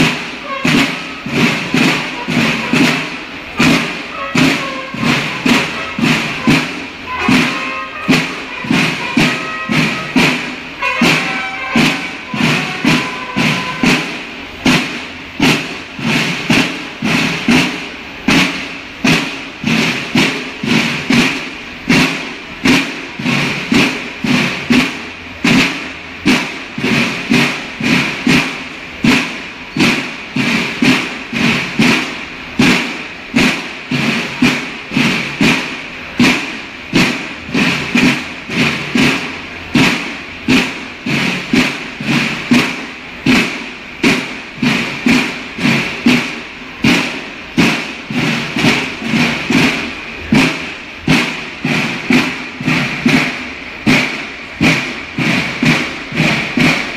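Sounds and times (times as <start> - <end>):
bugles playing a march: 0.0 - 56.9
snare and bass drums: 0.0 - 56.9.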